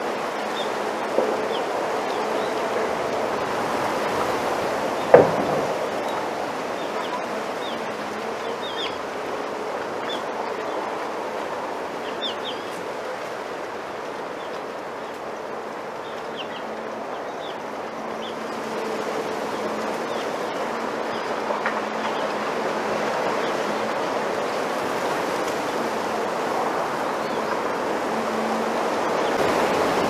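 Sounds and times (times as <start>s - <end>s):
wind rustling bamboo leaves: 0.0s - 30.0s.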